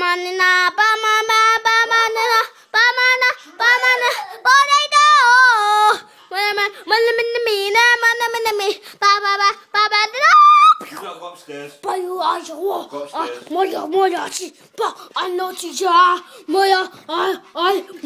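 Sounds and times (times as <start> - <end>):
young boy singing: 0.0 - 10.9, 11.8 - 18.0.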